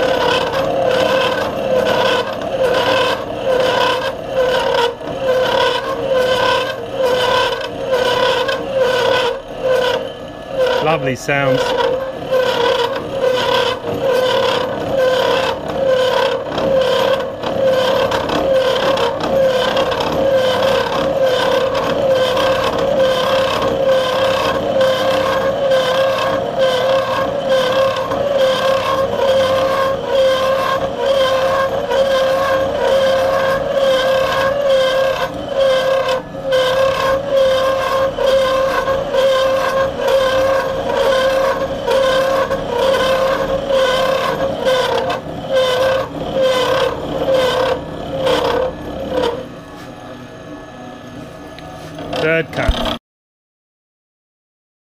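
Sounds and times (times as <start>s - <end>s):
milling machine whine: 0.0s - 53.0s.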